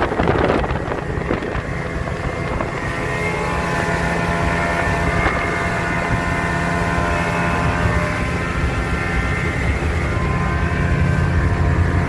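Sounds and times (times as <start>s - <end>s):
outboard motor running: 0.0s - 12.0s
rushing water: 0.0s - 12.0s
wind: 0.0s - 12.0s.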